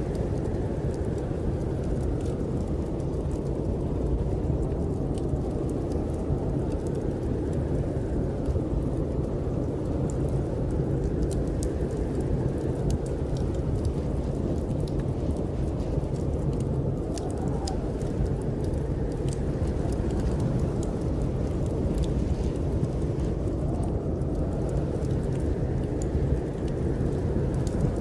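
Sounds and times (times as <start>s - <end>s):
snowstorm wind rumbling: 0.0s - 28.0s
wood fire crackling: 0.0s - 28.0s.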